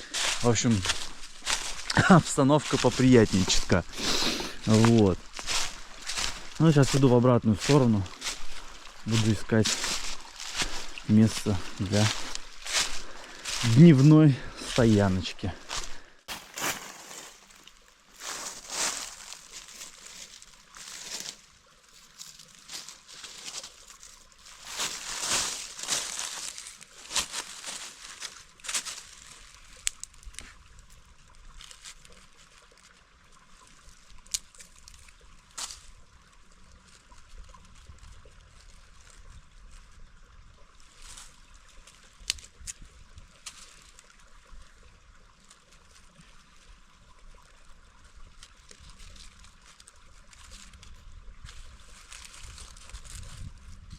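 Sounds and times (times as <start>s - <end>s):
crunching steps on riverbed: 0.0s - 40.0s, 40.7s - 44.6s, 45.2s - 53.9s
stream trickling and gurgling: 0.0s - 53.9s.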